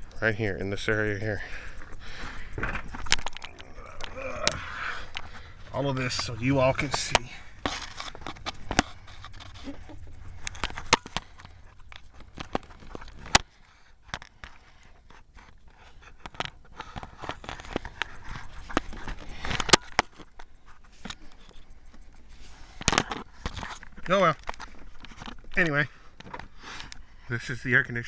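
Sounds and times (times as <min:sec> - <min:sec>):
clicks knocks and scrapes: 0:02.5 - 0:27.0.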